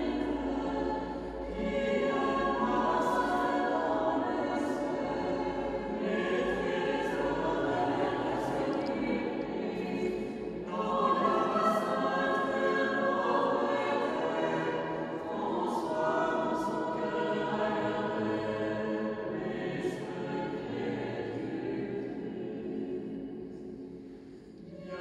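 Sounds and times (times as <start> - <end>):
choir singing a chant: 0.0 - 25.0.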